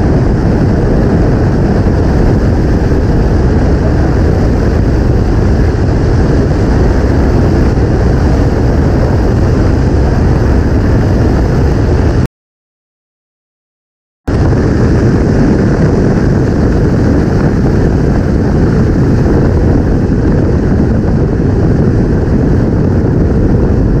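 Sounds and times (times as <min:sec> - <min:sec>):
tyre and road roar: 0:00.0 - 0:12.3, 0:14.3 - 0:24.0
wind buffeting camera: 0:00.0 - 0:12.3, 0:14.3 - 0:24.0.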